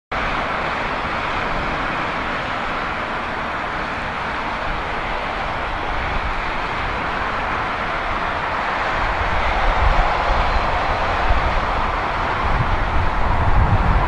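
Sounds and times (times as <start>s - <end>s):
jet engines rushing: 0.2s - 14.0s.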